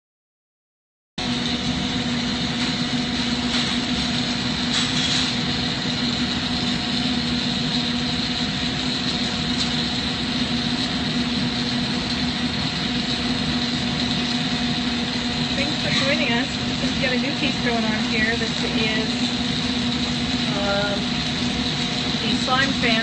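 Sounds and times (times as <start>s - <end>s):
glassworking torches roaring: 1.2s - 23.0s
ventilation running: 1.2s - 23.0s.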